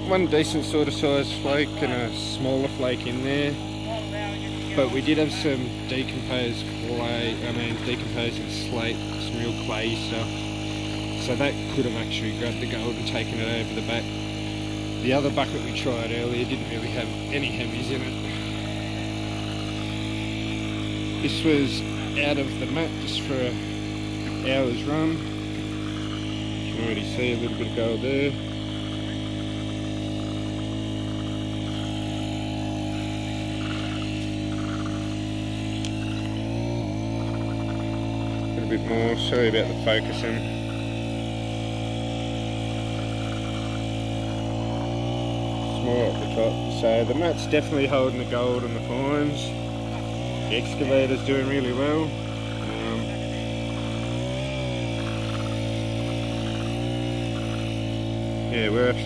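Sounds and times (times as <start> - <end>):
petrol water pump running: 0.0 - 59.0.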